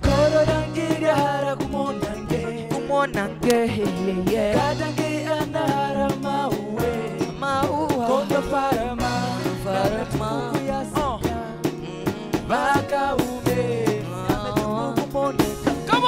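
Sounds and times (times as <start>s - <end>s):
bass guitar: 0.0s - 16.0s
drum kit beat: 0.0s - 16.0s
keyboard: 0.0s - 16.0s
man singing into microphone: 0.0s - 16.0s.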